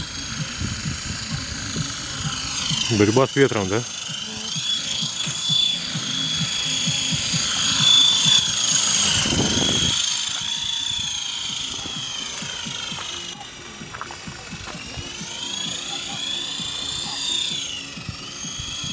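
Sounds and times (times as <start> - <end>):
rc helicopter rotor whine: 0.0 - 18.9.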